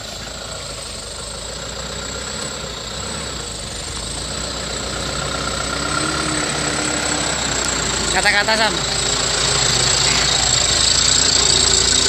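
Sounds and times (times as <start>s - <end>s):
motor whining: 0.0s - 12.0s.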